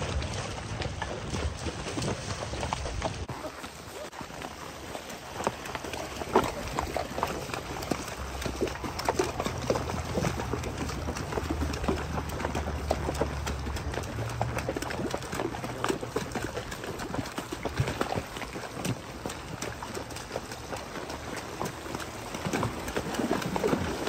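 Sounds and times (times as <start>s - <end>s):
hooves splashing through water: 0.0s - 24.0s.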